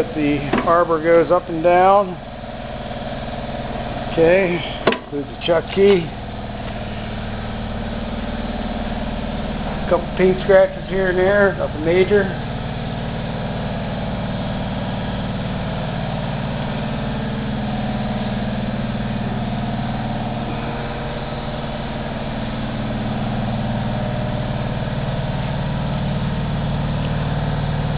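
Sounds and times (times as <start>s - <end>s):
drill press motor humming: 0.0s - 27.9s.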